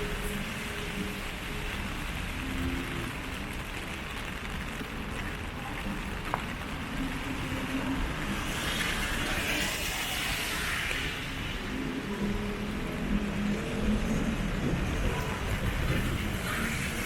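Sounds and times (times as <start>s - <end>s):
passing vehicles rumble: 0.0s - 17.0s
tyres hissing on wet road: 0.0s - 17.0s.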